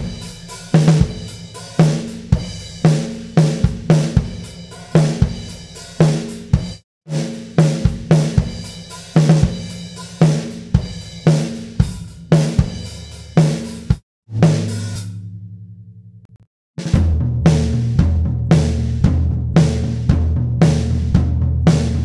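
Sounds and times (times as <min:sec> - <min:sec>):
drum kit groove: 0:00.0 - 0:15.3, 0:16.8 - 0:22.0.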